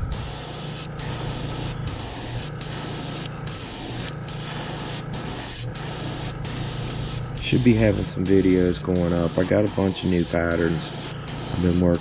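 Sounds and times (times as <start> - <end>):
airbrush spraying hiss: 0.0 - 12.0
low steady hum: 0.0 - 12.0.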